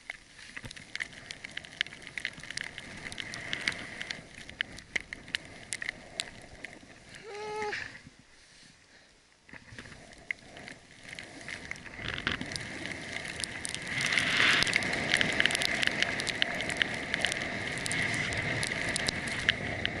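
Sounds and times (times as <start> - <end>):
skis scraping over packed snow: 0.0 - 20.0
small crackles: 0.0 - 20.0.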